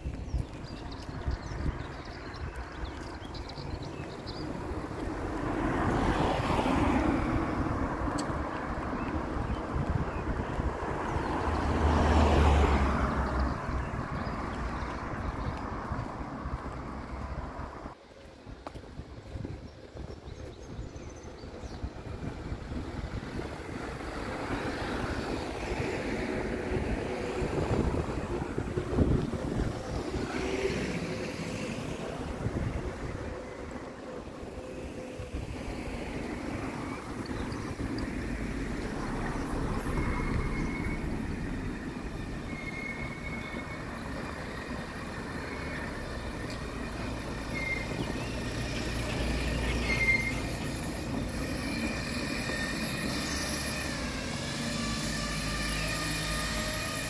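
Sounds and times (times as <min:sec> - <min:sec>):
vehicle passing by: 0:03.0 - 0:18.0, 0:22.3 - 0:57.0.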